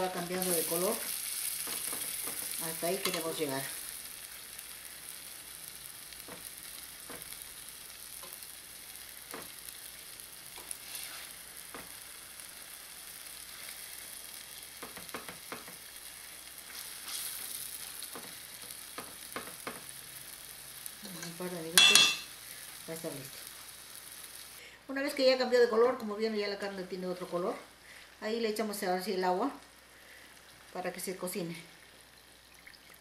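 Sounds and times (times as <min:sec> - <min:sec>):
meat sizzling in a pot: 0:00.0 - 0:33.0.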